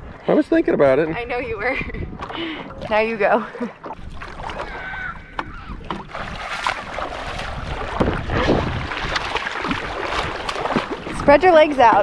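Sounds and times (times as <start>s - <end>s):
lake water sloshing and splashing: 0.0s - 12.0s
wind rumbling on microphone: 0.0s - 12.0s
paddle dipping in water: 2.0s - 12.0s.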